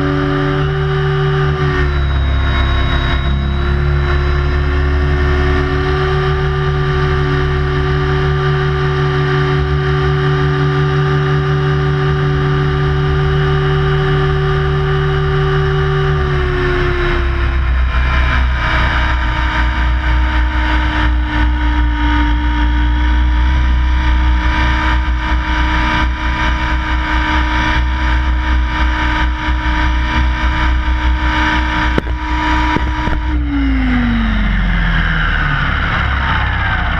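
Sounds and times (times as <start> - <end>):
helicopter motor and rotor: 0.0 - 36.9.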